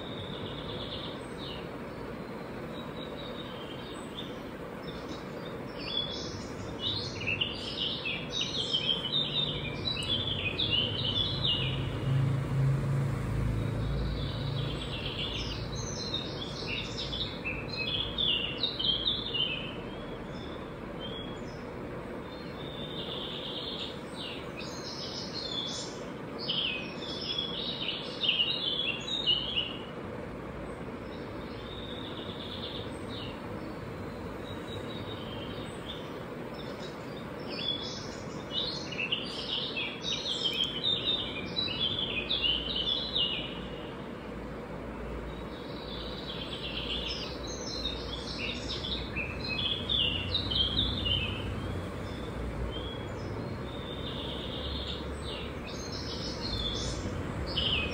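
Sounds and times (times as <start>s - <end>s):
songbird chirping: 0.0s - 57.9s
steady background hum: 0.0s - 57.9s.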